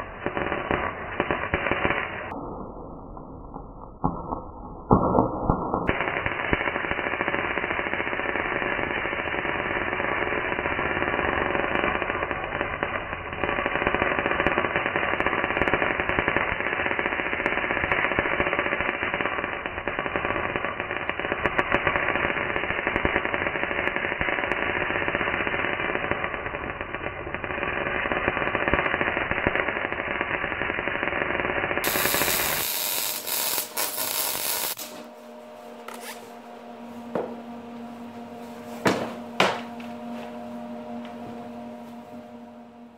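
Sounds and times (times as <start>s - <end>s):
welding arc sputtering and crackling: 0.0s - 2.4s, 4.2s - 42.9s.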